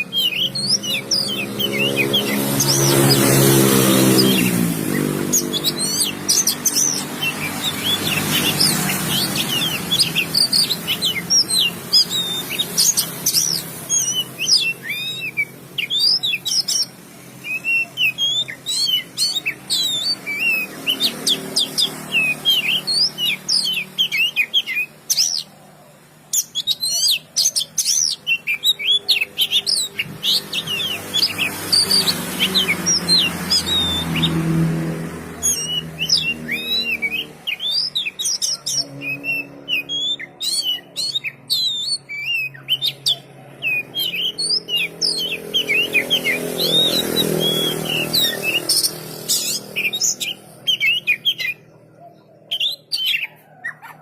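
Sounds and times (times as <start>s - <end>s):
songbird whistling and chirping: 0.0s - 54.0s.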